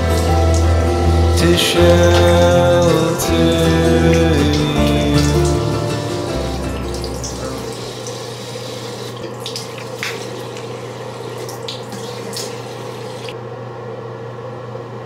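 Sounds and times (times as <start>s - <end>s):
hands splashing water on face: 0.0s - 13.3s
tap water running into sink: 0.0s - 13.4s.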